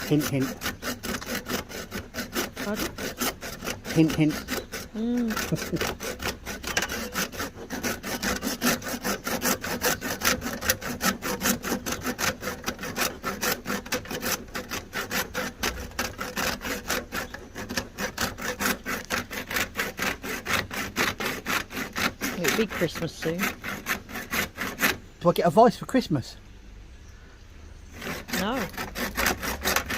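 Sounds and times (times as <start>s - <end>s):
hand saw cutting fitting: 0.0s - 25.1s, 28.0s - 29.9s.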